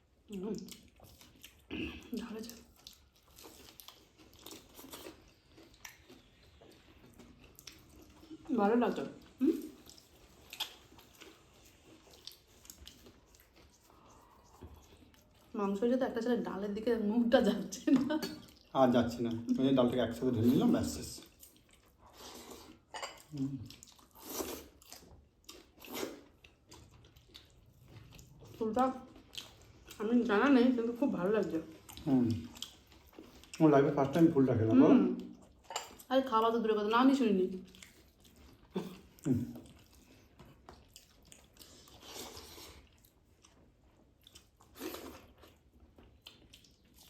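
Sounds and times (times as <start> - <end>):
chewing and wet squishing: 0.0 - 47.0.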